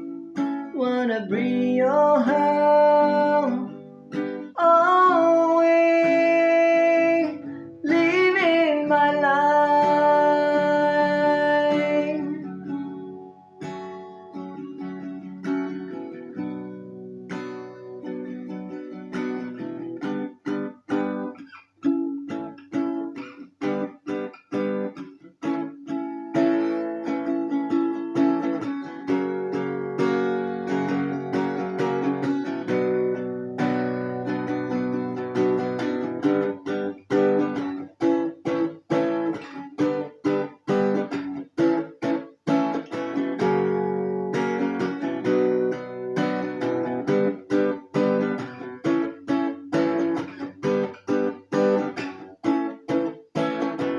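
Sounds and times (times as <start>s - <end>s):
acoustic guitar strumming: 0.0s - 53.9s.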